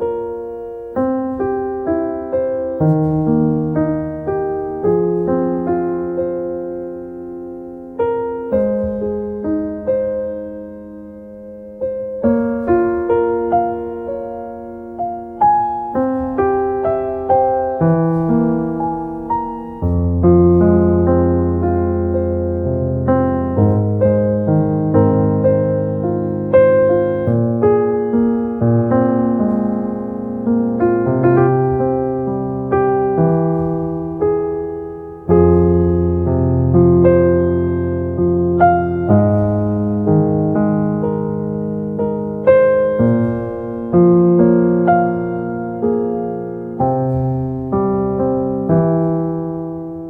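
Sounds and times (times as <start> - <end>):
slow solo piano: 0.0 - 50.0.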